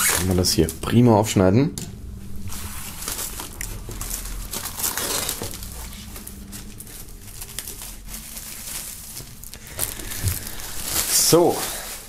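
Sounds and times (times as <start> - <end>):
plastic film crinkling: 0.0 - 0.8, 2.2 - 12.0.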